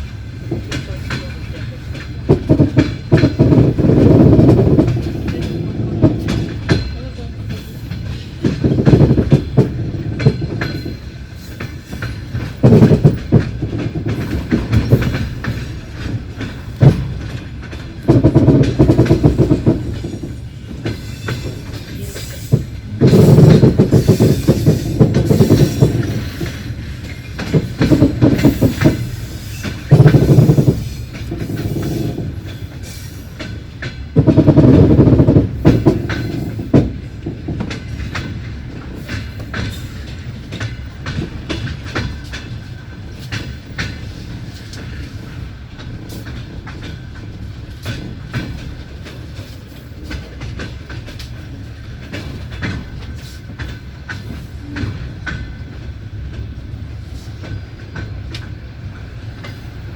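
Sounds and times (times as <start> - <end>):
train rumble: 0.0 - 59.9
train wheels clattering: 0.0 - 59.9.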